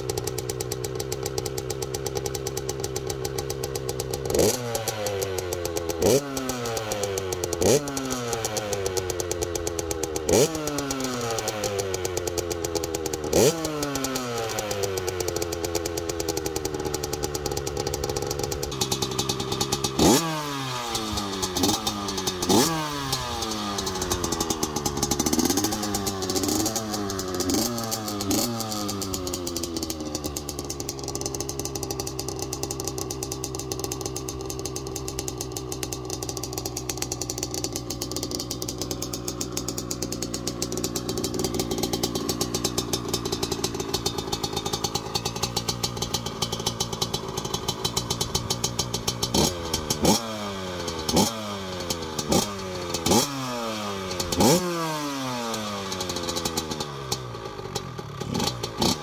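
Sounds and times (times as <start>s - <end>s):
two-stroke engine revving and idling: 0.0s - 59.0s.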